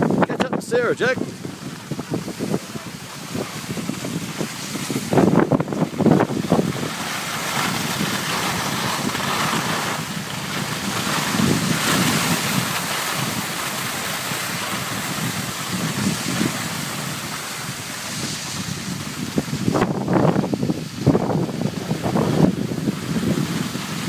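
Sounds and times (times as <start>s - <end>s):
skis sliding over snow: 0.0s - 24.0s
wind buffeting microphone: 0.0s - 24.0s.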